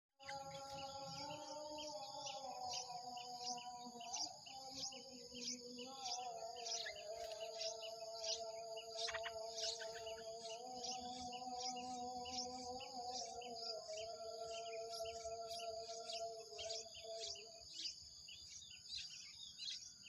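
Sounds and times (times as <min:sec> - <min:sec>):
birds chirping: 0:00.2 - 0:20.0.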